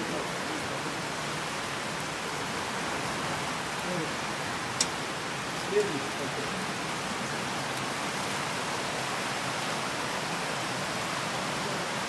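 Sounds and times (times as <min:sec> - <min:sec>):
running water rushing in tanks: 0:00.0 - 0:12.0.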